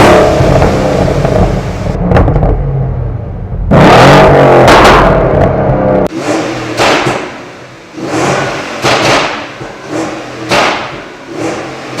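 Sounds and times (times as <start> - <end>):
engine revving: 0.0 - 2.5, 3.7 - 12.0.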